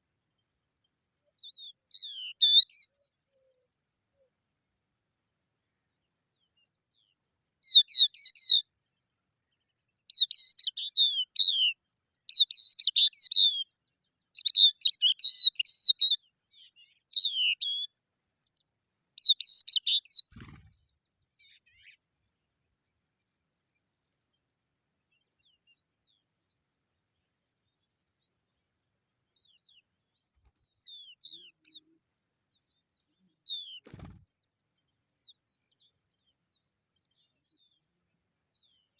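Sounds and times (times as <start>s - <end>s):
small bird chirping: 0.8s - 4.3s, 5.0s - 8.7s, 9.5s - 38.9s.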